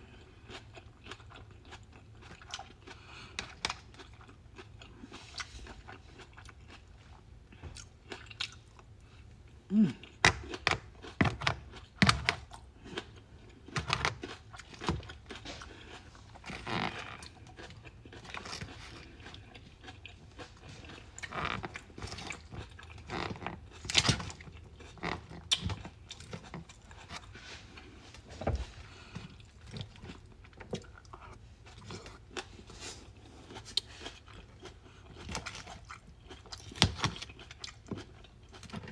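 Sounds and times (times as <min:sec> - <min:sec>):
chewing and crunching vegetables: 0:00.0 - 0:38.9.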